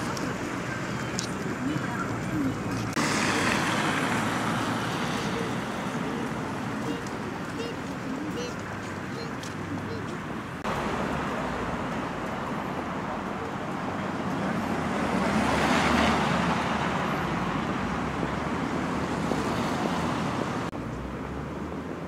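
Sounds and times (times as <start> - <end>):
motor vehicle passing: 0.0 - 21.7
street traffic noise: 0.0 - 22.0.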